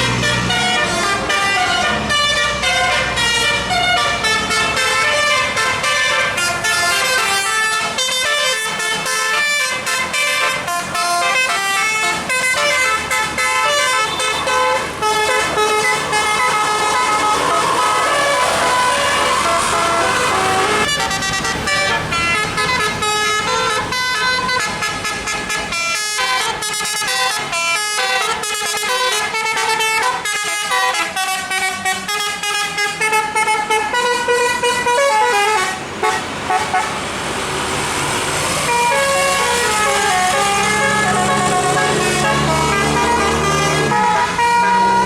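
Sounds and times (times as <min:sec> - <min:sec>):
multi-tone musical bus horn: 0:00.0 - 0:37.1, 0:38.4 - 0:45.0.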